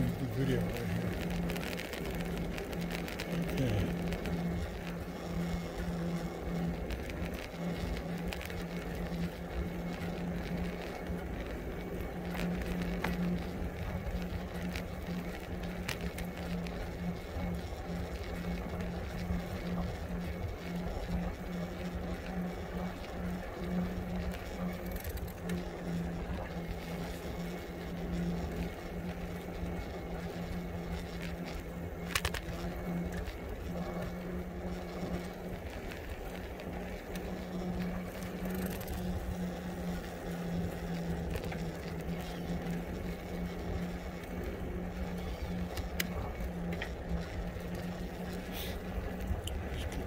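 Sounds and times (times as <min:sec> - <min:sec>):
steady low hum: 0:00.0 - 0:50.0
wind and road rumble: 0:00.0 - 0:50.0.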